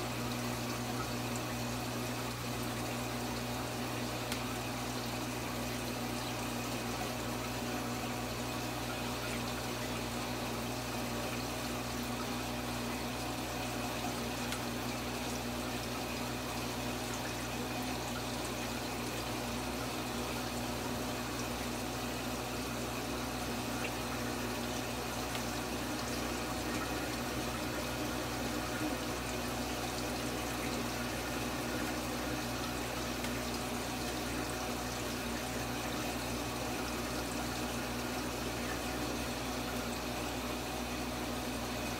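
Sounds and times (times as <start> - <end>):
aquarium pump humming: 0.0 - 41.9
water running through pipes: 0.0 - 41.9.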